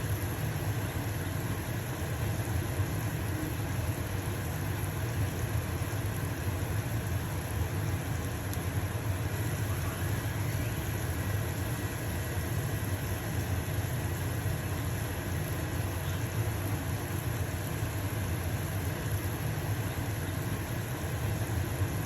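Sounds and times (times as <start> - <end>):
pancake sizzling in a pan: 0.0 - 22.0
range hood fan humming: 0.0 - 22.0.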